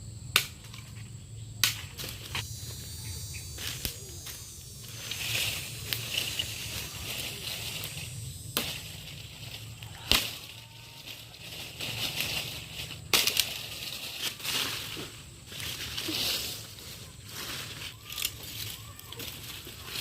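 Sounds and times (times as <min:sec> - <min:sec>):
steady high hiss: 0:01.2 - 0:20.0.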